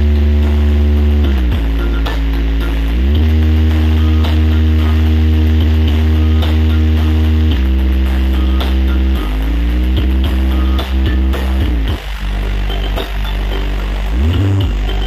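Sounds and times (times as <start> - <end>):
bass-heavy music on sound system: 0.0 - 15.0
light ticking beat: 0.0 - 15.0.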